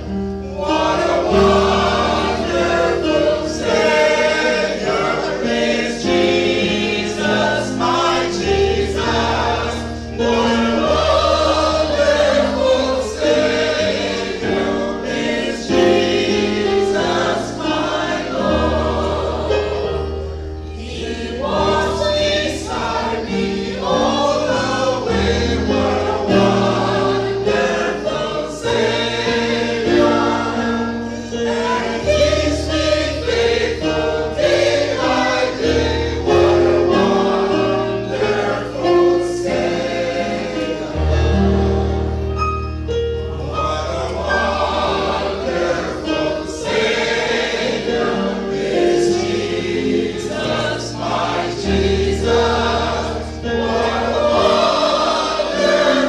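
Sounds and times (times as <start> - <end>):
choir singing a hymn: 0.0 - 56.0
instrumental accompaniment: 0.0 - 56.0.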